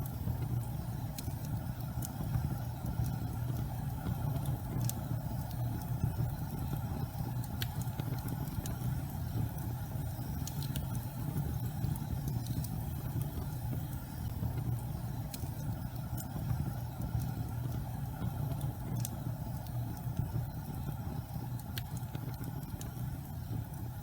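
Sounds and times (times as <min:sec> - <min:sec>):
gas fireplace flames rumbling: 0:00.0 - 0:24.0
sharp crackles: 0:00.0 - 0:24.0.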